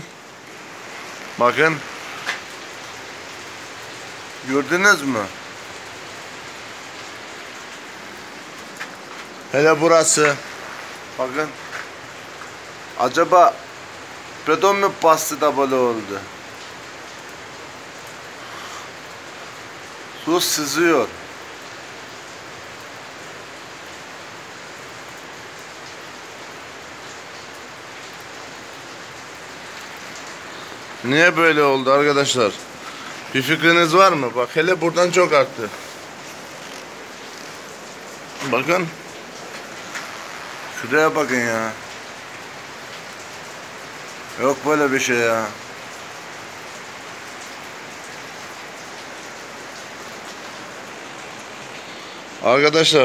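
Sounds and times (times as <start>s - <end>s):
water dripping through timber: 0.0s - 53.0s.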